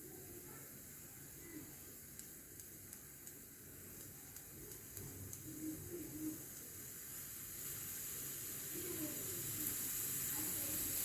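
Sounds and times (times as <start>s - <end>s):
pressure cooker hissing steam: 0.0s - 11.0s.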